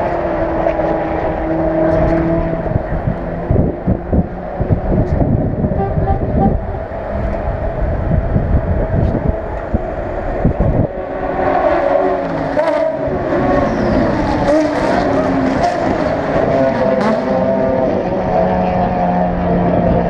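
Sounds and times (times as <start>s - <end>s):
low rumble: 0.0s - 16.6s
race car engines: 0.0s - 20.0s.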